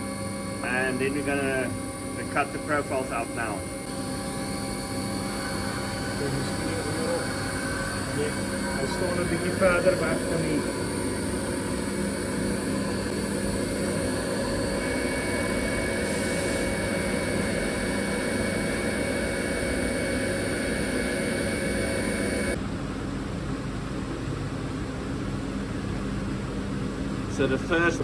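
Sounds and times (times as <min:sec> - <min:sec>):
machine hum with held tones: 0:00.0 - 0:22.6.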